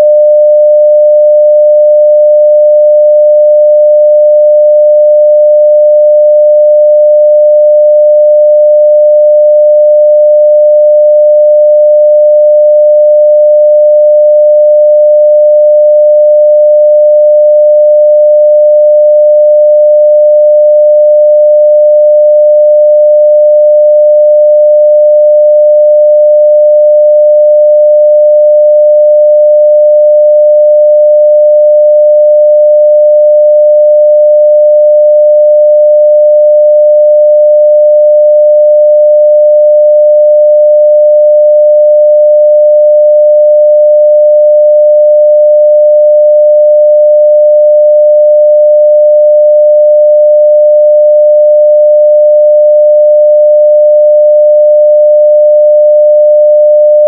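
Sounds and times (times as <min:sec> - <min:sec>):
sine-wave test tone: 0:00.0 - 0:57.0.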